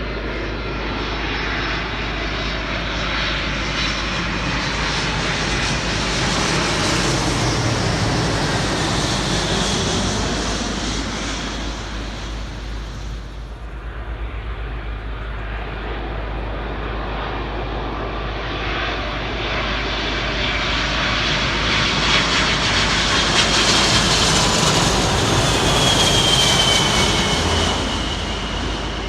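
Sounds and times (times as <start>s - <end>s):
jet airliner landing: 0.0s - 29.0s.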